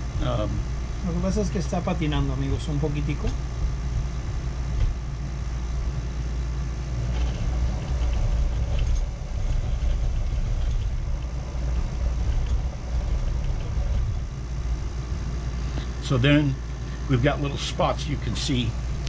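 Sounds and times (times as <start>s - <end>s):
rod-wrapping machine humming: 0.0s - 19.0s.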